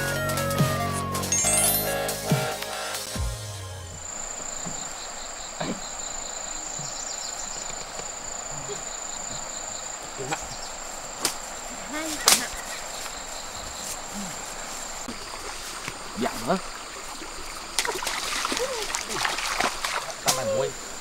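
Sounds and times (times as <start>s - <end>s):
constant hiss: 1.6s - 21.0s
insects trilling: 3.7s - 21.0s.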